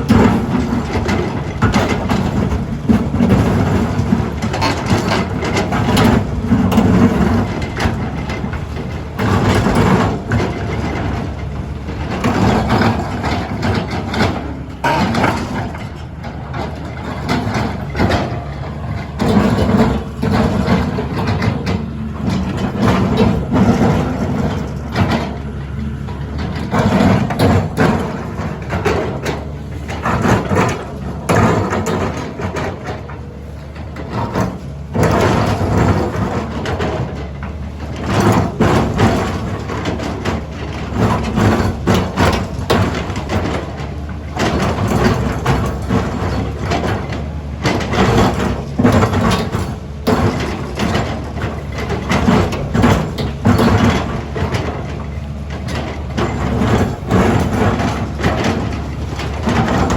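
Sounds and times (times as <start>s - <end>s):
excavator diesel engine drone: 0.0s - 59.9s.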